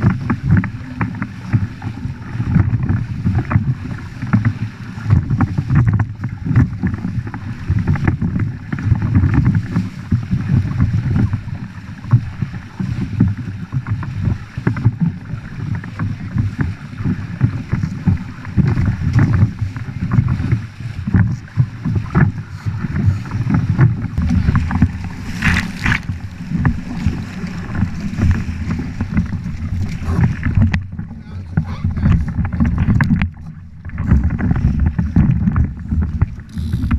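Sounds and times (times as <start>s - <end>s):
water splashing along hull: 0.0s - 36.9s
wind buffeting microphone: 0.0s - 36.9s.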